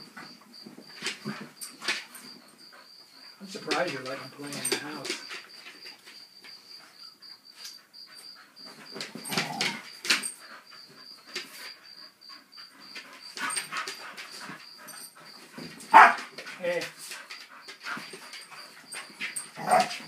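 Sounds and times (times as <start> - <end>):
dogs scuffling: 0.0 - 11.8, 12.7 - 20.0.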